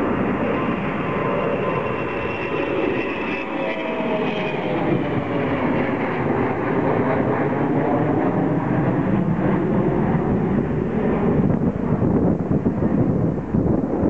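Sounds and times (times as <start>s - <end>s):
loud steady jet roar: 0.0s - 14.0s.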